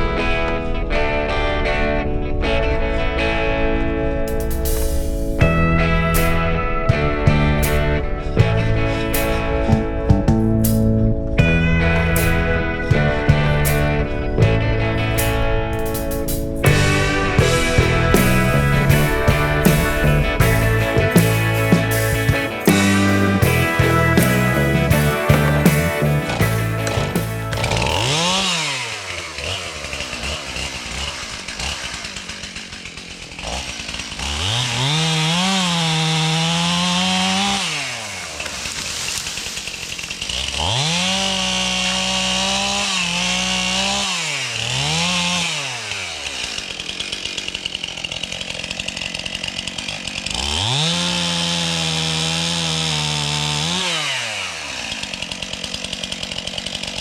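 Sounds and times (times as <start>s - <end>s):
chainsaw revving and idling: 0.0s - 57.0s.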